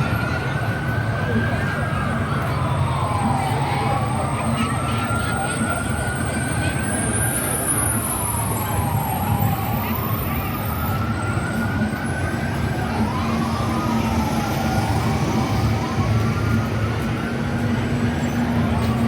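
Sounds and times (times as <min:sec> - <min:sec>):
second siren: 0:00.0 - 0:19.0
siren wailing: 0:00.0 - 0:19.0.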